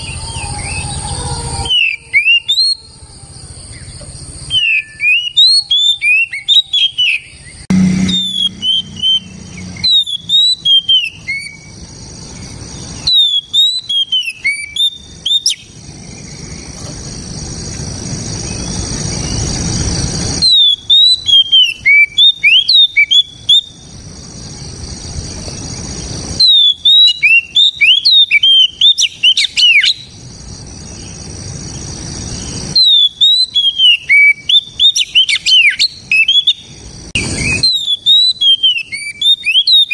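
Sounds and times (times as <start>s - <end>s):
bird whistling song: 0.0s - 16.9s, 18.4s - 23.9s, 25.4s - 30.2s, 32.3s - 39.9s.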